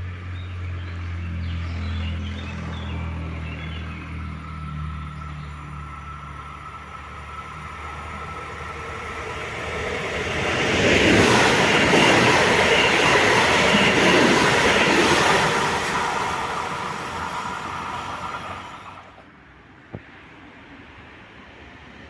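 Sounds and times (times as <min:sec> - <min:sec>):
train passing on tracks: 0:00.0 - 0:22.0.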